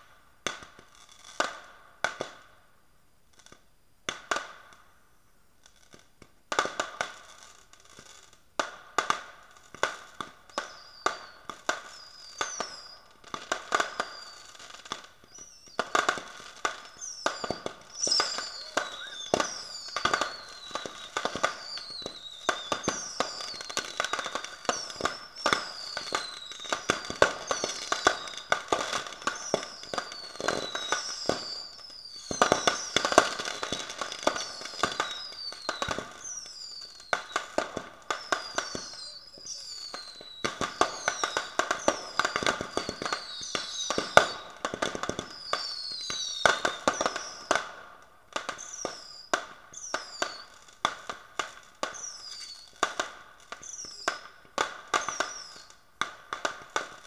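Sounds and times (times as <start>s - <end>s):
fireworks popping and crackling: 0.0s - 2.6s, 3.3s - 5.0s, 5.6s - 57.0s
falling firework whistles: 6.6s - 57.0s.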